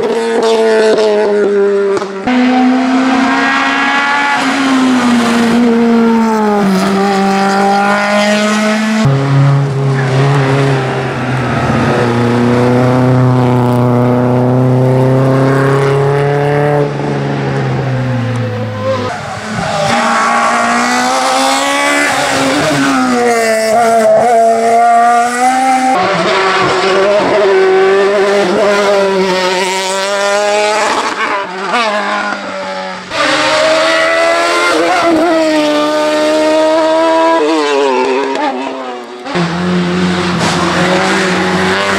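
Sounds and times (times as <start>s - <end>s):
race car engines at full throttle: 0.0s - 41.9s.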